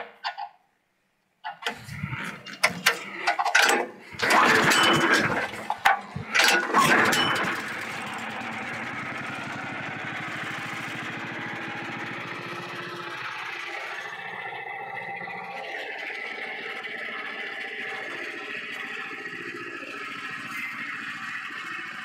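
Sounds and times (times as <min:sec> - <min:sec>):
small gasoline engine starting: 0:01.6 - 0:22.0.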